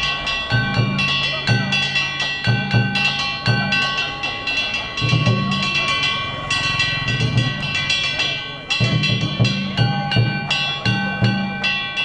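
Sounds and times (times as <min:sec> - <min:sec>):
taiko drum strikes: 0:00.0 - 0:04.1, 0:04.8 - 0:12.0
small hand gongs ringing: 0:00.0 - 0:12.0.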